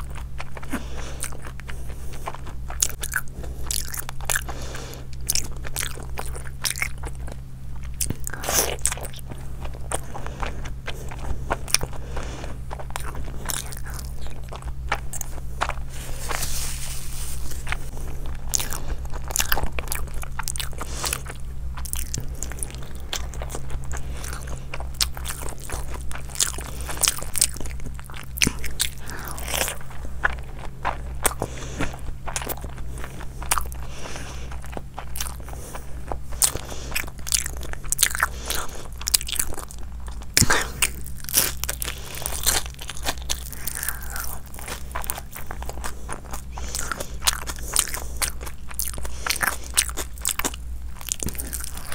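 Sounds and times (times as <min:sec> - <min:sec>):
low hum: 0:00.0 - 0:51.9
person chewing food: 0:00.0 - 0:51.9.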